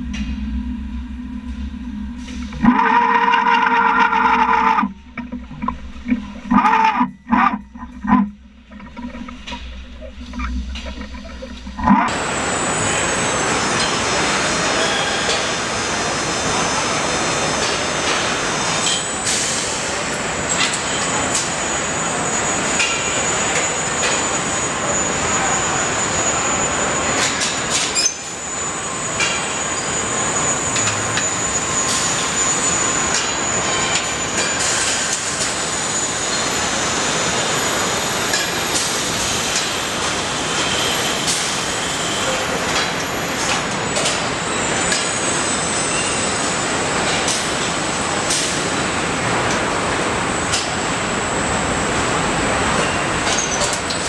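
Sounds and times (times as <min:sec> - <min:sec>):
assembly line machinery din: 0:00.0 - 0:54.0
high-pitched whine: 0:00.0 - 0:54.0.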